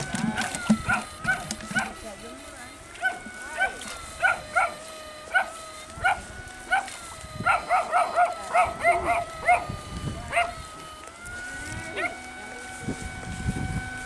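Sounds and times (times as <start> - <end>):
electrofishing shocker whining: 0.0 - 14.0.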